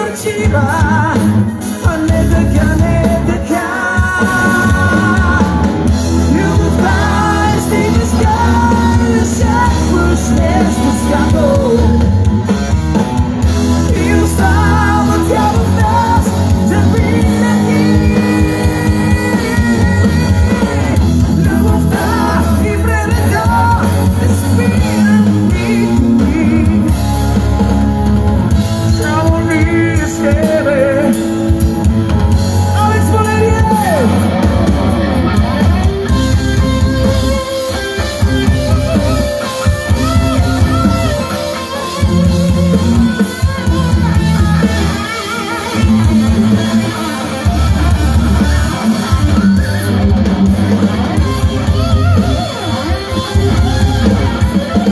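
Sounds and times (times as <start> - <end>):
live rock band playing: 0.0 - 54.9
pitch-bending guitar melody: 0.0 - 54.9.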